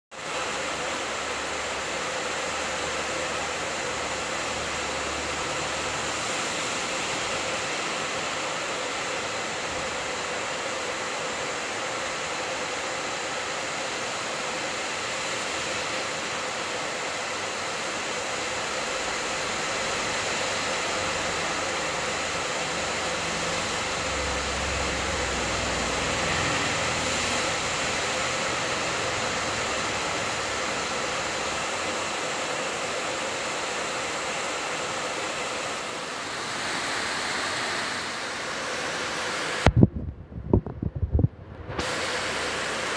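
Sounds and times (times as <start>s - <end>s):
heavy rain falling: 0.1s - 42.9s.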